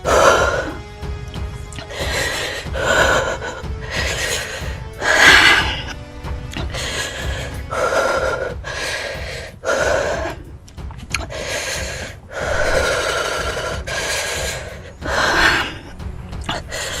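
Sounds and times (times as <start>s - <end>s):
person gasping and panting: 0.0s - 0.9s, 1.8s - 17.0s.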